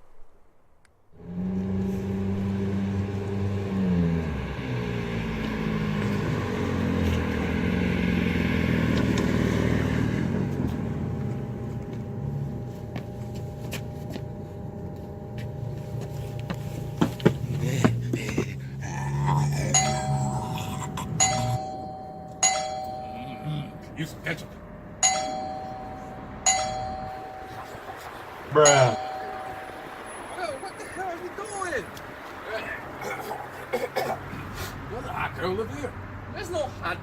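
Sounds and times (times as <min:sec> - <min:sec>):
vehicle engine running: 0:01.1 - 0:37.0.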